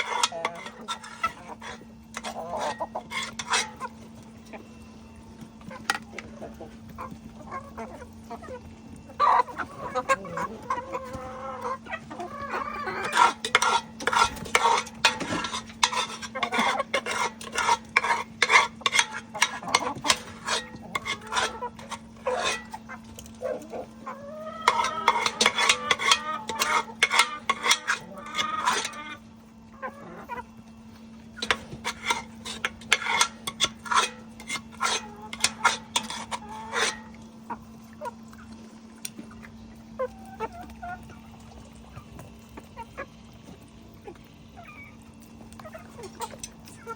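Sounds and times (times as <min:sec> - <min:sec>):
chickens clucking: 0:00.0 - 0:46.9
faint steady hum: 0:00.0 - 0:46.9.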